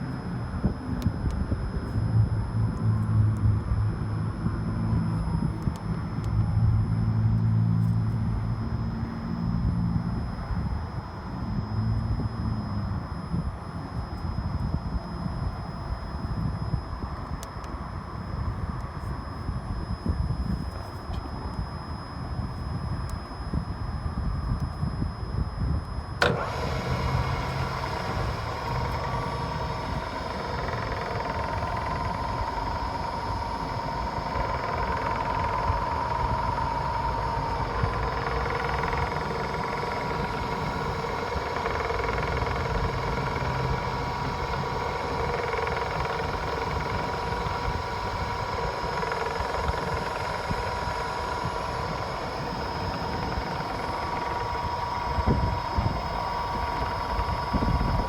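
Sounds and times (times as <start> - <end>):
milling machine humming and whining: 0.0 - 58.0.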